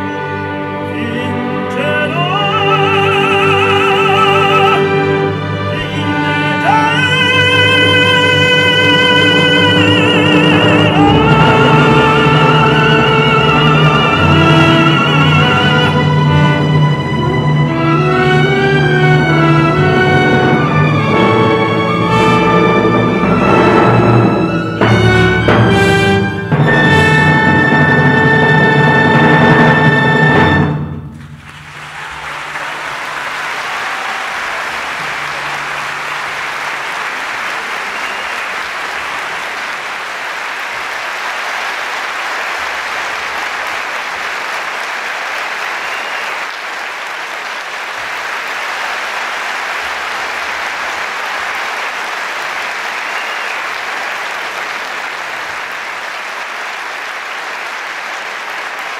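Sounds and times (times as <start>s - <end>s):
audience applauding: 1.8s - 25.8s, 31.1s - 58.9s.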